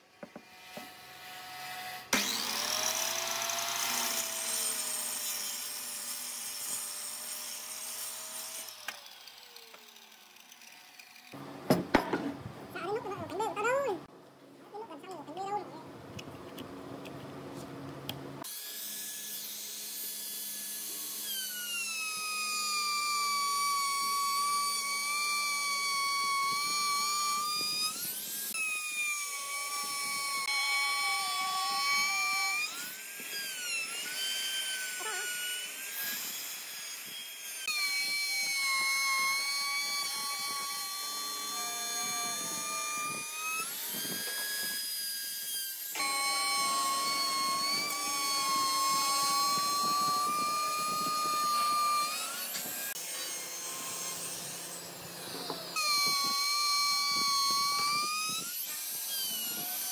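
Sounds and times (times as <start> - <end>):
router whining while cutting wood: 0.0 - 11.4, 18.4 - 59.9.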